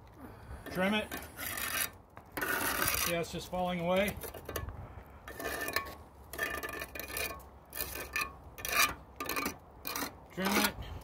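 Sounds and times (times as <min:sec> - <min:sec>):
trowel scraping mortar: 0:00.7 - 0:04.7, 0:05.3 - 0:10.8.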